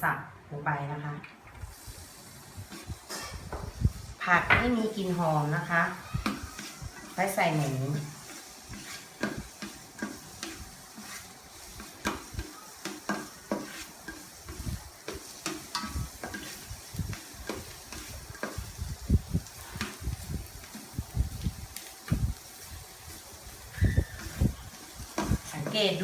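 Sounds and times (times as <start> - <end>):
garlic sizzling in oil: 1.6 - 26.0
spatula scraping a pan: 1.7 - 26.0.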